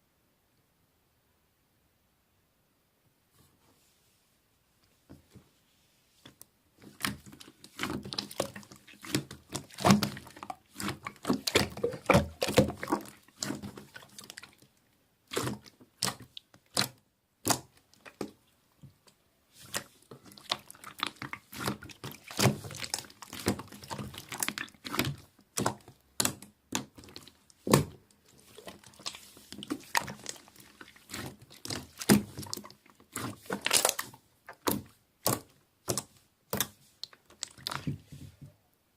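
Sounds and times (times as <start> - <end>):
slime squishing: 6.8 - 38.4.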